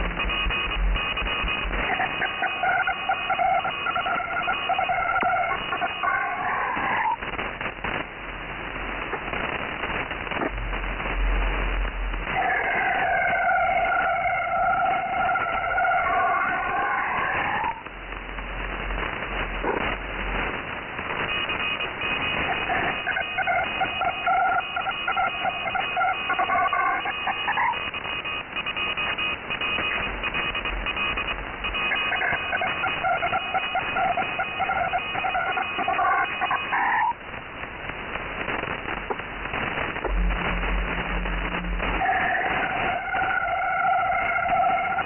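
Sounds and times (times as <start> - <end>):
high shifting data tones: 0.0 - 8.0, 9.3 - 17.9, 21.1 - 37.2, 38.3 - 45.0
radio static: 0.0 - 45.0.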